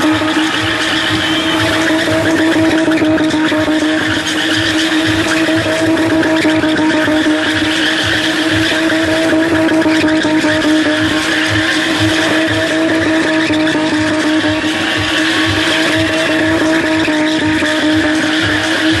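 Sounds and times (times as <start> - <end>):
car engine at high revs: 0.0 - 19.0
tyres screeching: 0.0 - 19.0.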